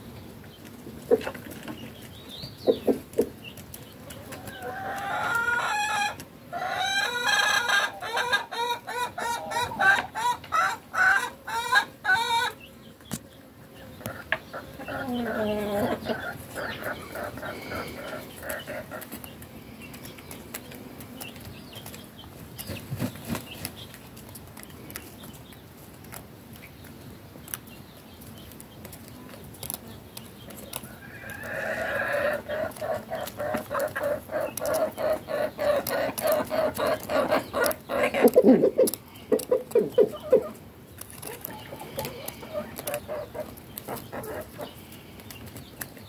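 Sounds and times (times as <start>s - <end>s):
beaks pecking on dry dirt: 0.0s - 46.0s
chickens clucking: 0.0s - 46.0s.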